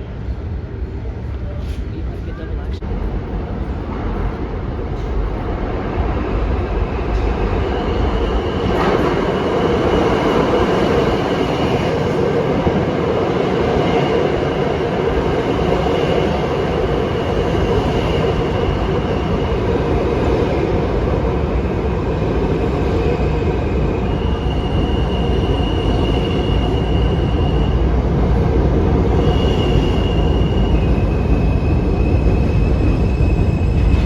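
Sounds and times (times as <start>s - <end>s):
subway train rumbling on rails: 0.0s - 34.0s.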